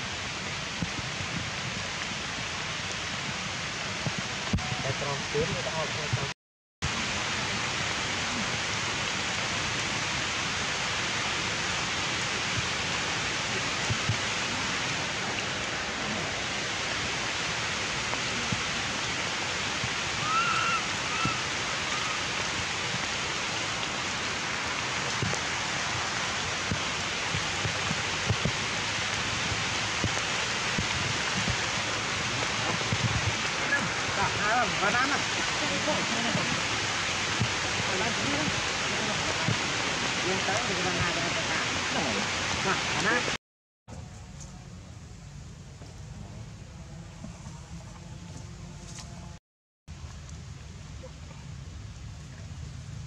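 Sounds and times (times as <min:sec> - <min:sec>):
rushing hiss of background noise: 0:00.0 - 0:06.3, 0:06.9 - 0:53.0.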